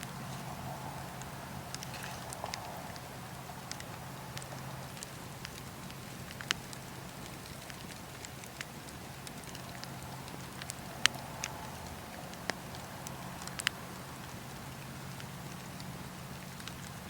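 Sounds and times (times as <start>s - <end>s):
campfire crackling and popping: 0.0s - 17.0s
low rush of fire: 0.0s - 17.0s.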